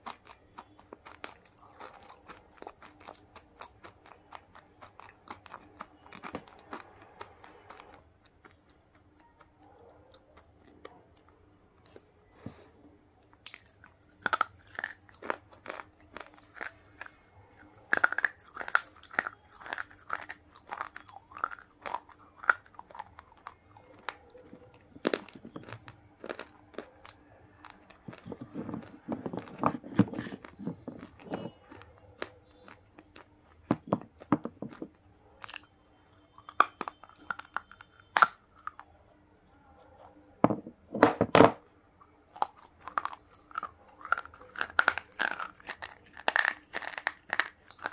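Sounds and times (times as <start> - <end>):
crunching and chewing: 0.0 - 12.4, 13.2 - 40.9, 41.8 - 47.9.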